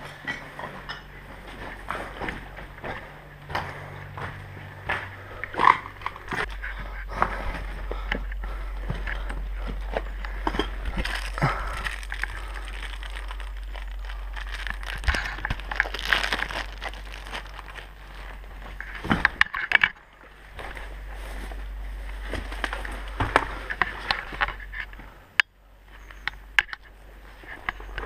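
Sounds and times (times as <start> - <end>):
rustling and crackling of handling: 0.0 - 28.0
steady low rumble: 0.0 - 28.0.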